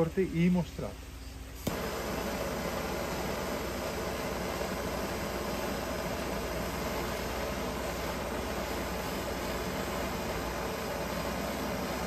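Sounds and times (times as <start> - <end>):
gas torch flame hissing: 1.5 - 12.0
gas torch igniter click: 1.6 - 12.0.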